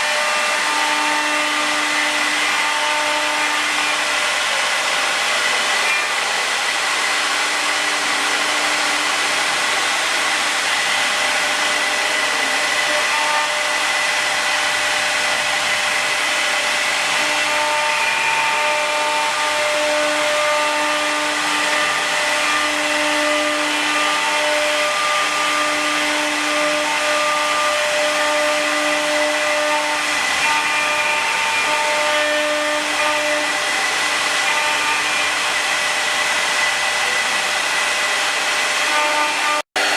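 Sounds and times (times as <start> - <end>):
cutting hiss: 0.0 - 39.6
cnc spindles whining: 0.0 - 39.9.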